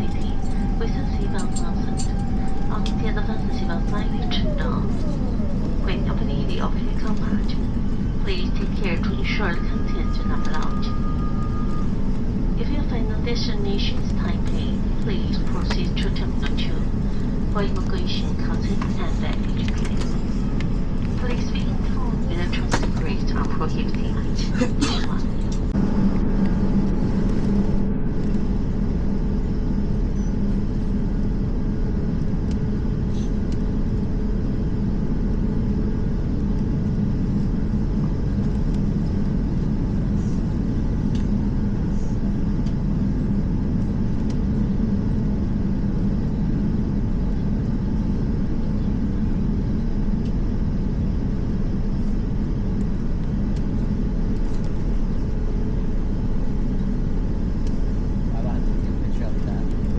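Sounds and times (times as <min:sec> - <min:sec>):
aircraft cabin rumble and hum: 0:00.0 - 0:59.9.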